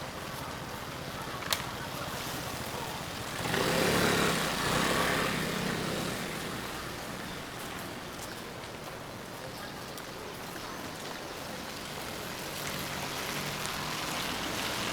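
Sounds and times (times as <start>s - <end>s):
steady rain falling: 0.0s - 14.9s
vehicle passing on wet street: 0.0s - 14.9s.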